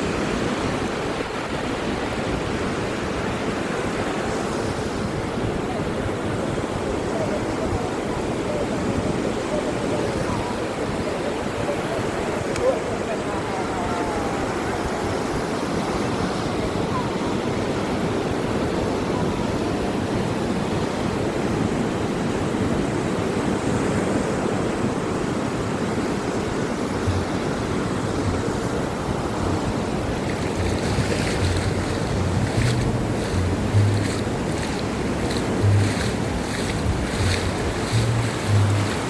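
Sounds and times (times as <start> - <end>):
ocean surf washing onto beach: 0.0 - 39.0.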